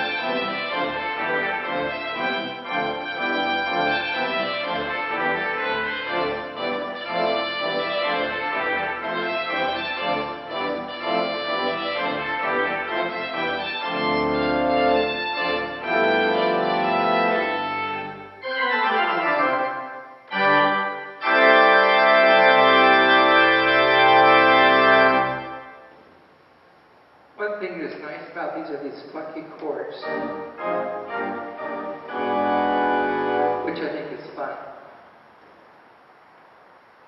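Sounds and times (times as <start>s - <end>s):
organ playing a trumpet tune: 0.0s - 26.0s, 29.8s - 34.7s.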